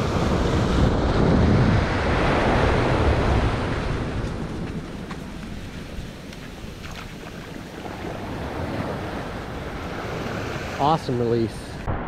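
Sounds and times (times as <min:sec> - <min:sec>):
surf washing up beach: 0:00.0 - 0:11.9
wind rumbling on microphone: 0:00.0 - 0:12.0.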